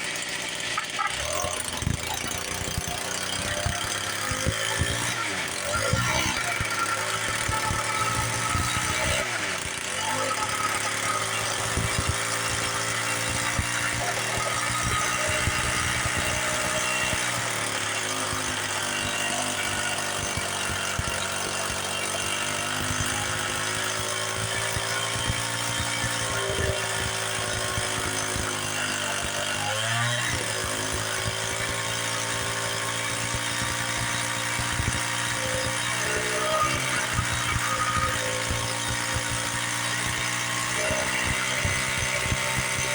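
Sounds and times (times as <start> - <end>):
small two-stroke engine running: 0.0 - 42.9.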